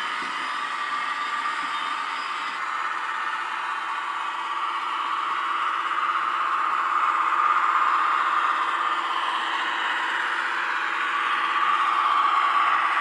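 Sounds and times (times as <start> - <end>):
thin diesel engine drone: 0.0 - 13.0.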